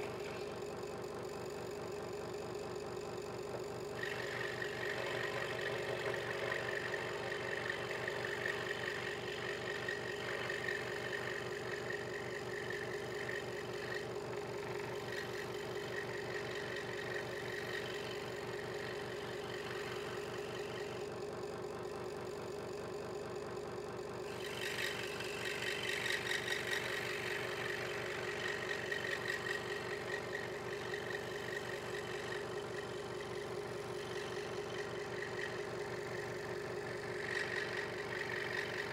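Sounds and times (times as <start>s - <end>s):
scroll saw cutting wood: 0.0s - 0.6s, 4.0s - 21.2s, 24.2s - 38.9s.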